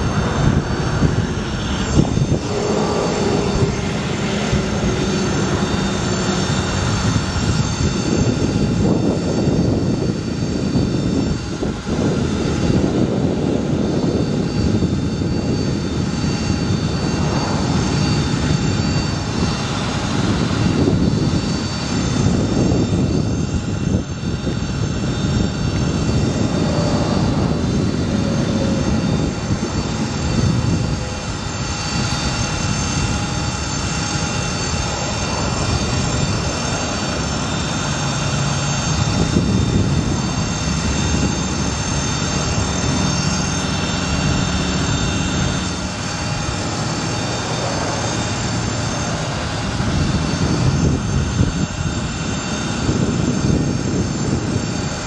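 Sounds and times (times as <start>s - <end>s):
truck engine drone: 0.0s - 53.6s
hydraulic pump whine: 0.0s - 55.0s.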